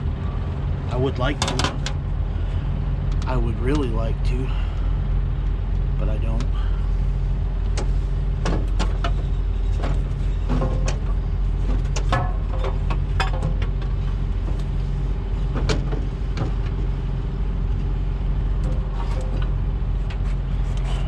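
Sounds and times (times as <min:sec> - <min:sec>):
engine idling drone: 0:00.0 - 0:21.0.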